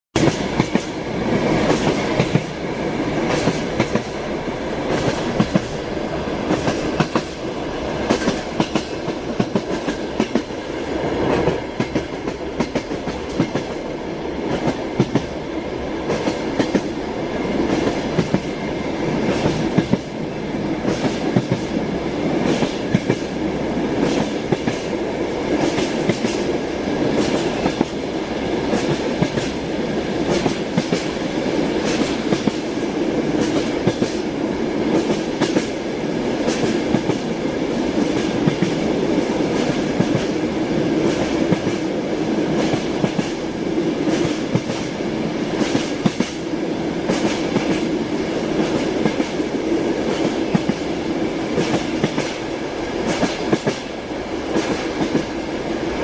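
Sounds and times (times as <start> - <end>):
train carriage rumble: 0.2 - 56.0.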